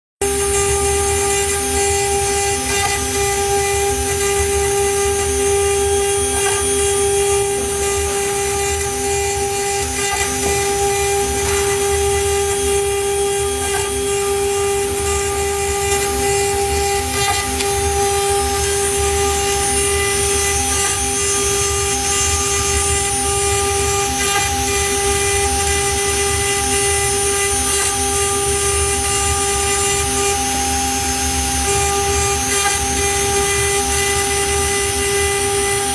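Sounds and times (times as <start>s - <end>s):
bit cutting wood: 0.2s - 35.9s
router spindle whine: 0.2s - 35.9s.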